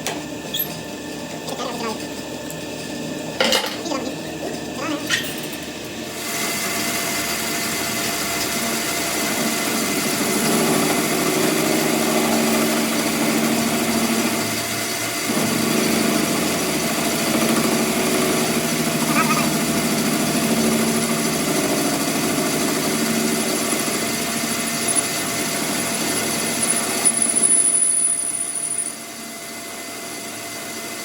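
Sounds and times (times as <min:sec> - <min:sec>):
workshop machine running: 0:00.0 - 0:31.0.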